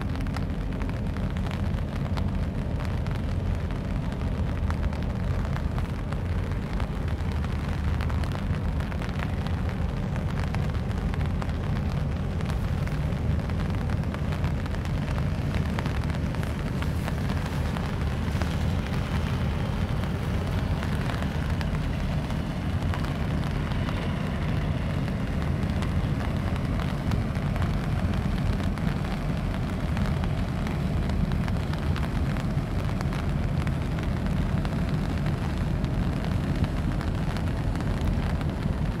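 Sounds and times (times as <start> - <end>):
rain falling: 0.0 - 39.0
wind buffeting microphone: 0.0 - 39.0.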